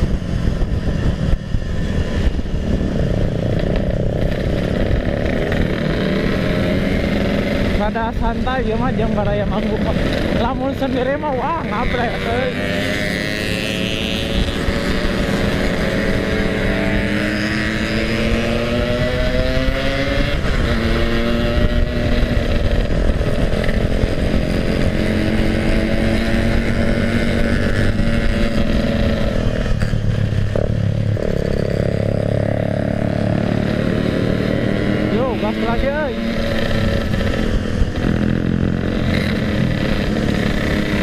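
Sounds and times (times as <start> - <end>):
motorcycle engine revving: 0.0 - 41.0
wind on microphone: 0.0 - 41.0.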